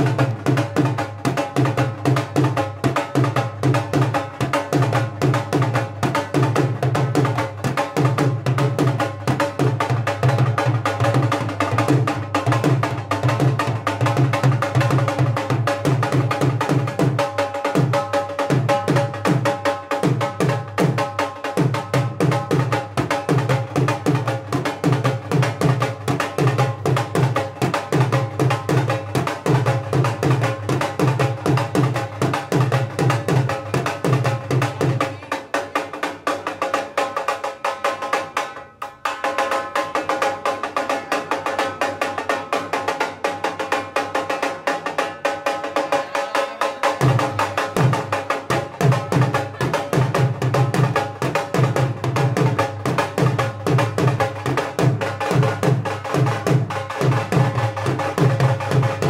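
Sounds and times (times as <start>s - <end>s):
dhol drum beating: 0.0s - 59.0s.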